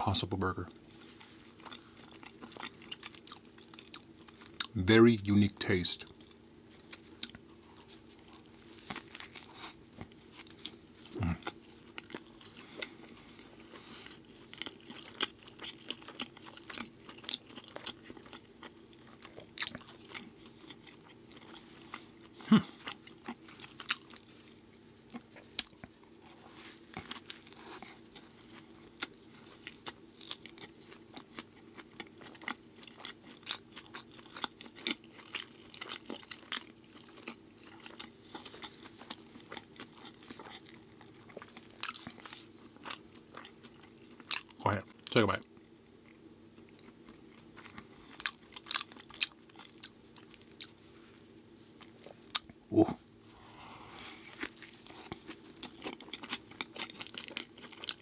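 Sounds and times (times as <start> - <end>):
chewing and crunching food: 0.0 - 58.0
low steady hum: 0.0 - 58.0.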